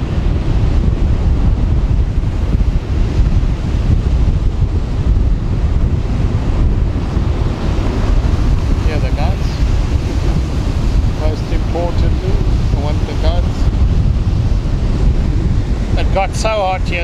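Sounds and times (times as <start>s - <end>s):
gusty wind on microphone: 0.0s - 17.0s
surf breaking on shore: 0.0s - 17.0s.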